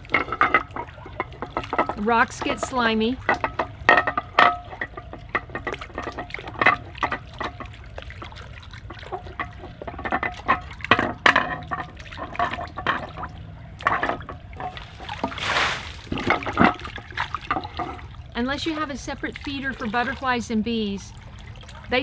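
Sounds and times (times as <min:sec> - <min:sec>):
water splashing in bird bath: 0:00.0 - 0:22.0.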